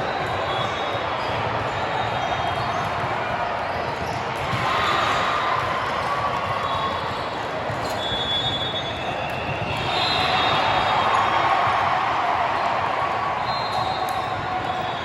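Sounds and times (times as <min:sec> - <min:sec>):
hubbub of crowd and players: 0:00.0 - 0:15.0.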